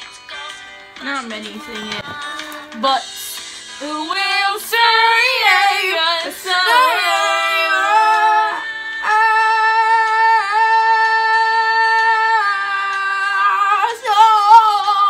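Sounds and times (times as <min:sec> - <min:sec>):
girl singing karaoke loudly: 0:00.2 - 0:15.0.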